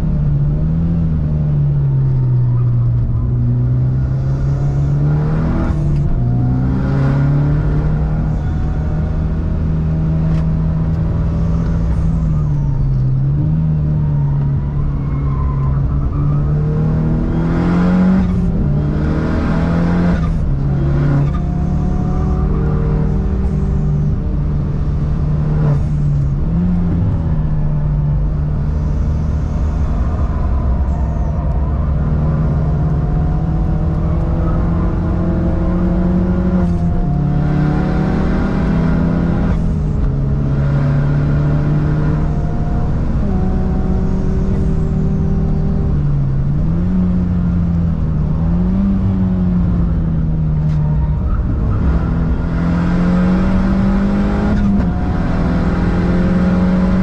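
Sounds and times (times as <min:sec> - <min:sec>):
car engine revving high: 0:02.9 - 0:14.3, 0:15.3 - 0:57.0.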